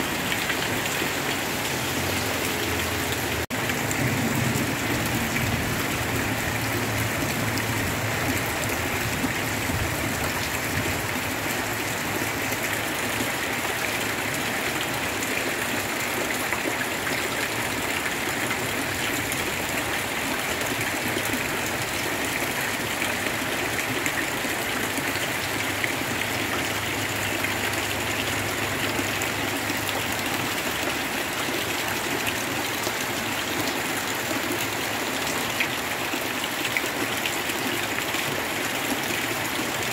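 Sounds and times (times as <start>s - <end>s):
heavy rain hitting water: 0.0s - 39.9s.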